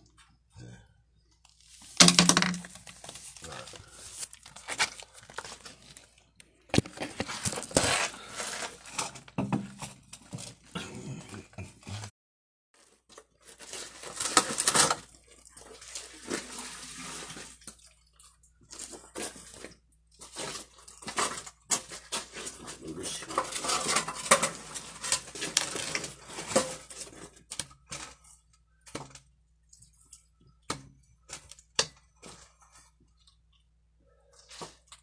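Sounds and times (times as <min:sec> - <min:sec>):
handling things: 0:01.2 - 0:12.0, 0:12.8 - 0:35.0.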